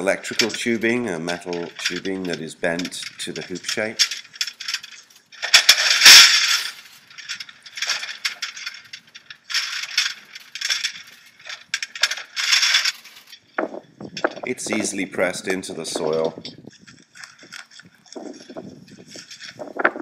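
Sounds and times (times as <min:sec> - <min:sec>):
metal hoops clinking and rattling: 0:00.0 - 0:20.0.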